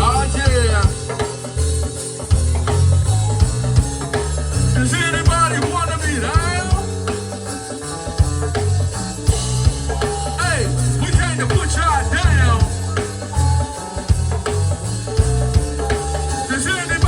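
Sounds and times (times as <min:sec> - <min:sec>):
drum kit beat: 0:00.0 - 0:17.0
heavy bass line: 0:00.0 - 0:17.0.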